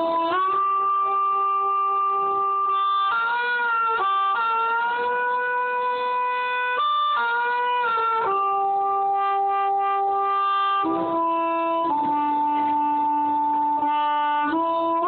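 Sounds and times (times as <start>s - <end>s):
harmonica playing slow melody: 0.0s - 15.0s.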